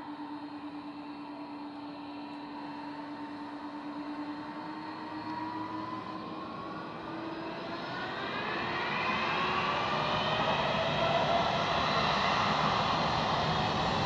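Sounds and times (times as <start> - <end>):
airliner engines whining: 0.0 - 14.0.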